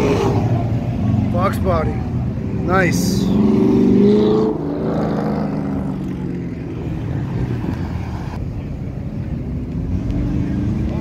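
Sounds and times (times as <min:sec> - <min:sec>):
passing traffic rumble: 0:00.0 - 0:11.0.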